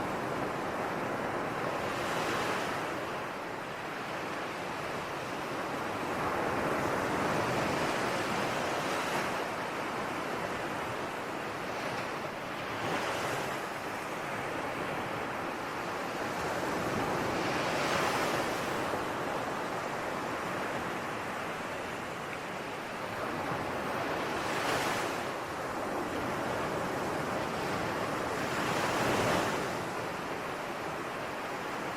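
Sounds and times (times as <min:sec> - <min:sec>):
ocean waves breaking on shore: 0:00.0 - 0:31.9.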